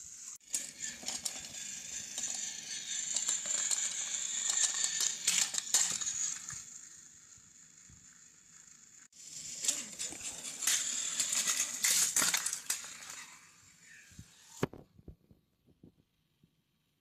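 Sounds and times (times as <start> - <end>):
toy trains rattling on plastic track: 0.1 - 14.4.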